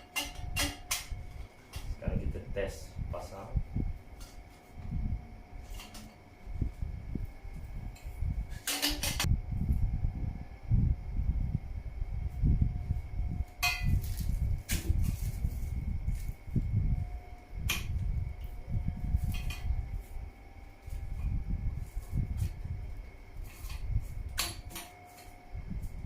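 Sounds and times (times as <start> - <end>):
low rumbling handling noise: 0.0 - 26.0.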